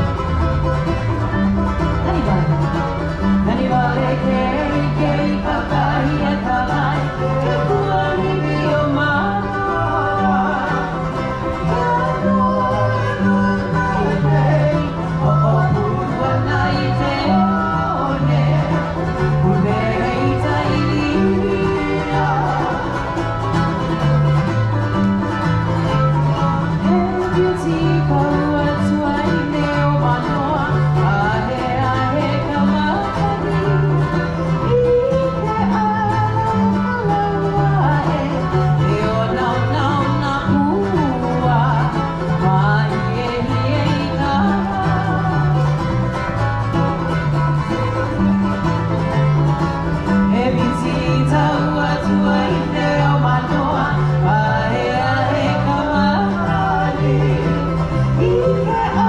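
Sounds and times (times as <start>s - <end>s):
bass line: 0.0s - 59.0s
plucked and strummed strings: 0.0s - 59.0s
person singing: 1.9s - 23.8s, 26.4s - 46.2s, 50.3s - 59.0s.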